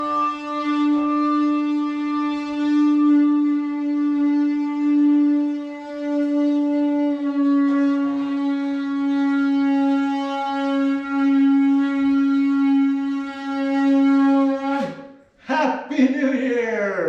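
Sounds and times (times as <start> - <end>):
tube blown like a horn: 0.0 - 15.4.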